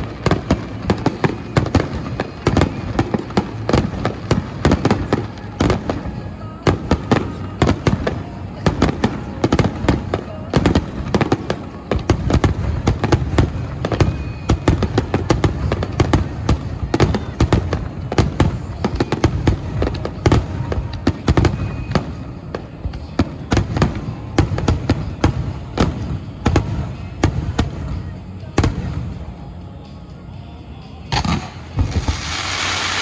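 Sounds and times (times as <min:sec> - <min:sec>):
fireworks bangs and cracks: 0:00.0 - 0:29.3, 0:31.1 - 0:33.0.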